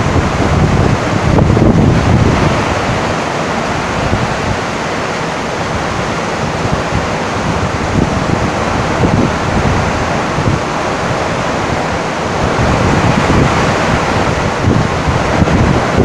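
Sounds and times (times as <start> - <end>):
heavy rain on a tin roof: 0.0 - 16.0.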